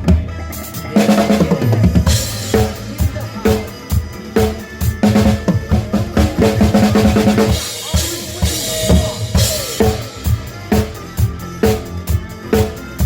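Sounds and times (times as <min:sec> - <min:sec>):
backing track music: 0:00.0 - 0:13.0
drum kit playing: 0:00.0 - 0:13.0.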